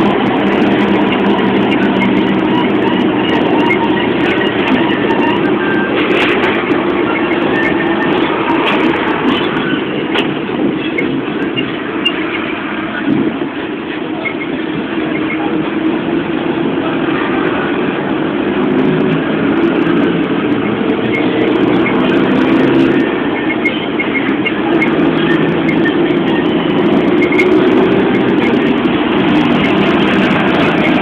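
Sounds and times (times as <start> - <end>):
bus engine running: 0.0 - 31.0
road noise inside bus: 0.0 - 31.0.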